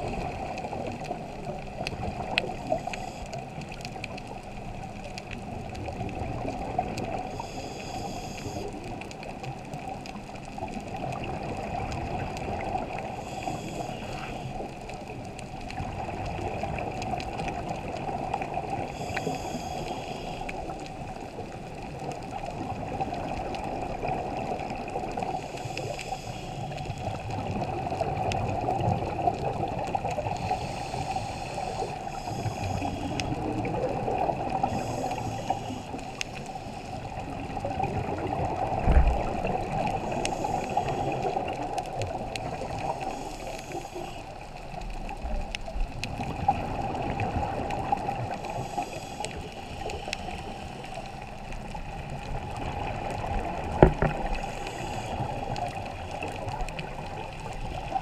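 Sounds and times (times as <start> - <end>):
regulator bubbling hiss: 0.0 - 4.4, 6.2 - 9.0, 11.0 - 21.9, 22.7 - 44.8, 45.7 - 58.0
muffled water rumble: 0.0 - 58.0.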